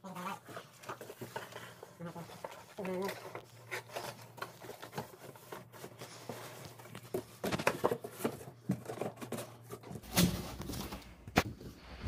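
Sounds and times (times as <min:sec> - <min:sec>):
knocks and rustles: 0:00.4 - 0:12.0.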